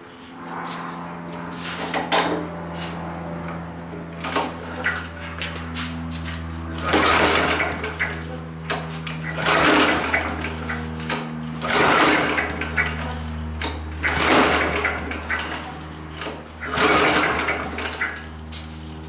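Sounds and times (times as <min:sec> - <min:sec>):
small lawn mower engine surging: 0:00.0 - 0:19.0.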